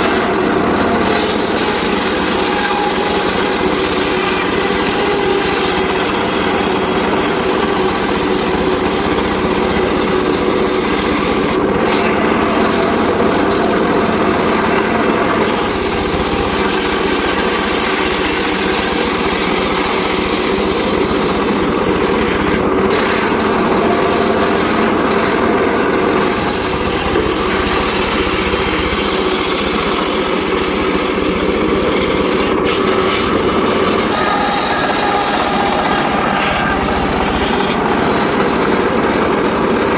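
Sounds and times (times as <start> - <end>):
circular saw cutting timber: 0.0 - 39.9.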